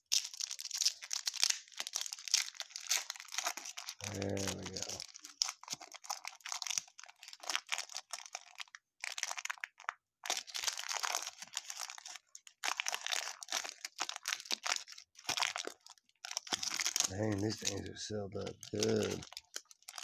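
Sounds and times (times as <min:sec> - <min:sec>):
card pack wrapper crinkling: 0:00.0 - 0:20.0.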